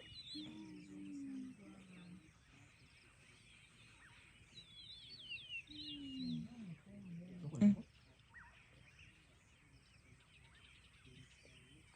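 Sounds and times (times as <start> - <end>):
bird chirping: 0.0 - 11.9
faint low drawn-out tone: 0.0 - 11.9.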